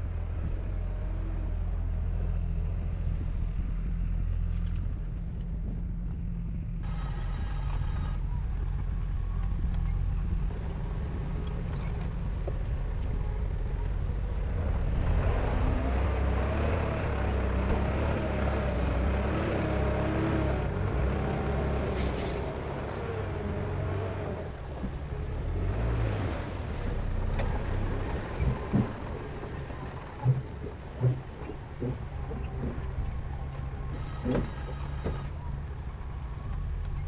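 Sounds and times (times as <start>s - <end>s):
heavy machinery engine running: 6.8s - 37.0s.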